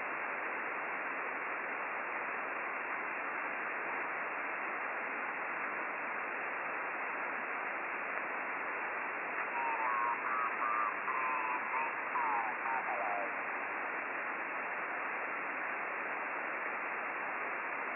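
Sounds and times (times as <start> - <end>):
receiver hiss: 0.0 - 17.9.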